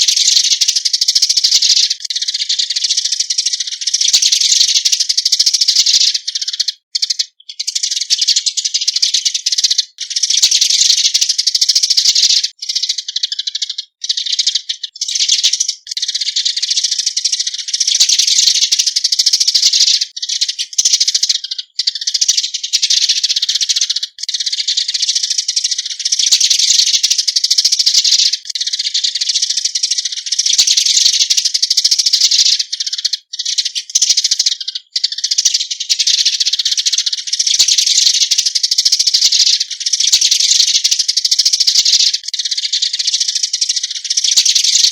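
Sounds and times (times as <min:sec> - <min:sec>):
sparrows chattering: 0:00.0 - 0:44.9.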